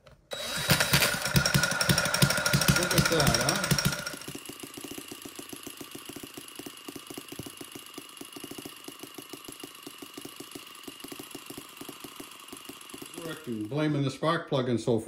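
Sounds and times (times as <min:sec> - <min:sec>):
small model engine running: 0:00.3 - 0:14.7.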